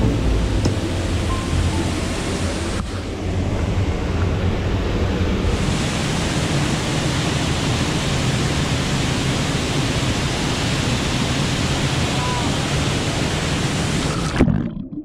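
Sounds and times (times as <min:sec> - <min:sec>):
waterfall roaring into pool: 0:00.0 - 0:14.4.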